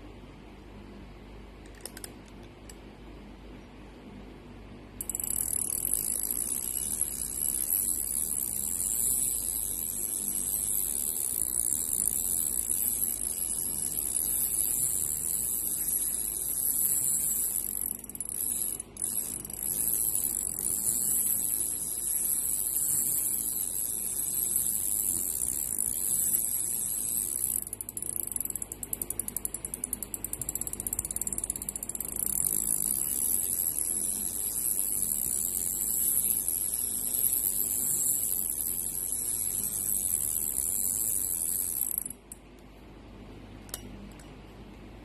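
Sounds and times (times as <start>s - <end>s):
fishing reel whirring: 5.0s - 42.3s
fine ratchet clicks: 5.0s - 42.5s.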